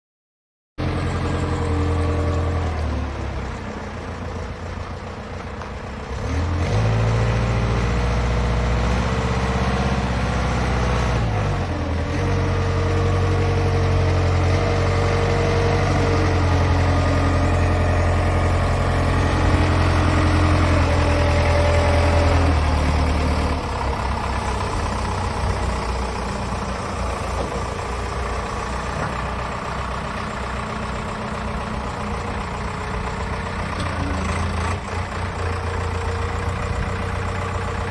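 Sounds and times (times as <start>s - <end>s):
wheel loader diesel engine: 0.8s - 37.9s.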